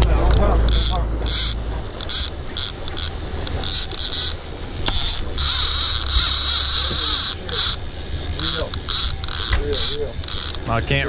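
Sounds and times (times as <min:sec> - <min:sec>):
boat engine drone: 0:00.0 - 0:11.0
fishing reel drag buzzing: 0:00.2 - 0:11.0.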